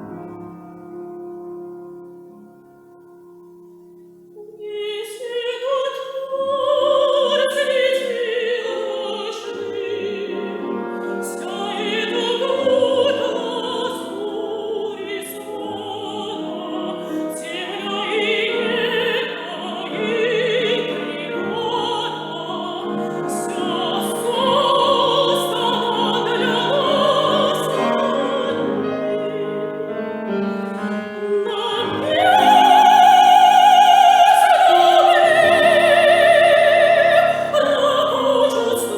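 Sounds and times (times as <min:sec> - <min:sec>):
piano accompaniment: 0:00.0 - 0:05.8, 0:06.4 - 0:38.9
operatic soprano singing: 0:04.4 - 0:38.9.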